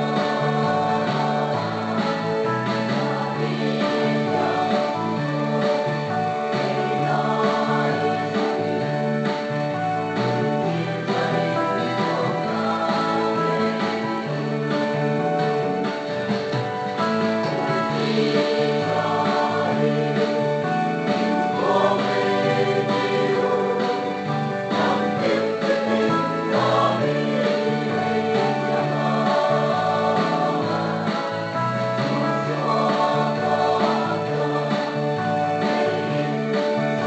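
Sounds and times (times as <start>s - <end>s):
song with singing: 0.0s - 37.0s.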